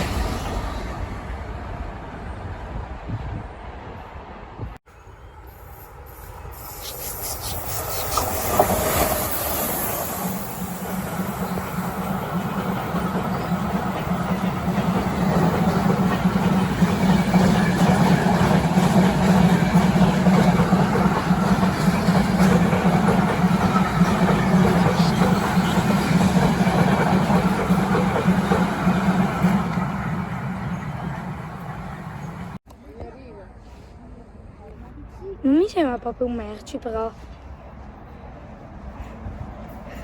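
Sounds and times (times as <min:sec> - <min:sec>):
train passing on track: 0:00.0 - 0:32.6, 0:35.6 - 0:40.0.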